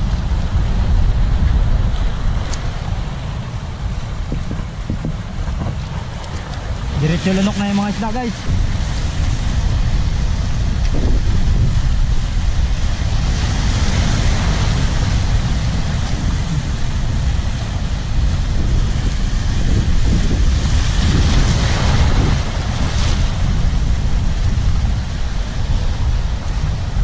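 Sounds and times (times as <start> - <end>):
surf washing over rocks: 0.0 - 27.0
wind buffeting microphone: 0.0 - 27.0.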